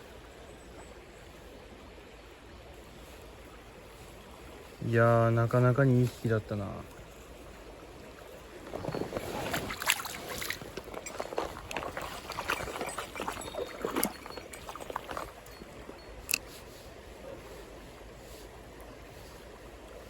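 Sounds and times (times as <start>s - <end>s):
water splashing and sloshing: 0.0s - 20.0s
mountain stream rushing: 1.1s - 20.0s.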